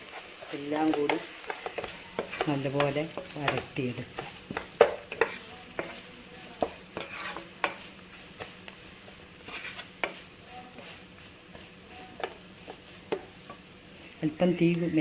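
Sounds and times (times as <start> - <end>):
faint sizzle: 0.0 - 15.0
spoon scraping a pan: 0.0 - 15.0.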